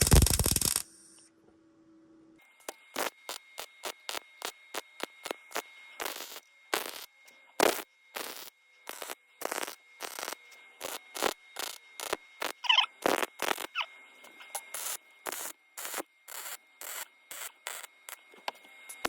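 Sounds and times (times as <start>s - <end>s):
welding arc crackle: 0.0s - 1.2s, 2.9s - 18.3s
steady high whine: 0.0s - 19.0s.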